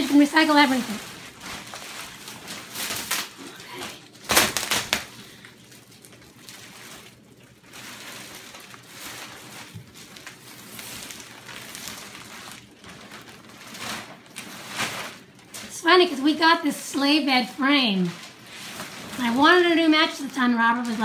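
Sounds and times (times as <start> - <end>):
plastic sheeting crinkling: 0.0 - 21.0.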